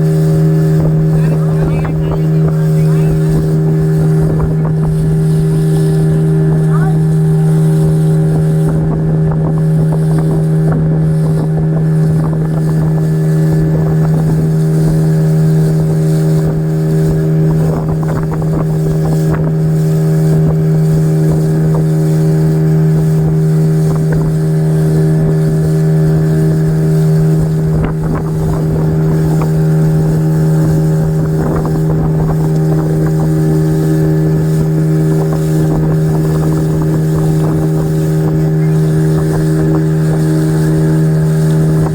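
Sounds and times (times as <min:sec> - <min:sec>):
speedboat engine droning: 0:00.0 - 0:41.9
water and wind hiss: 0:00.0 - 0:41.9.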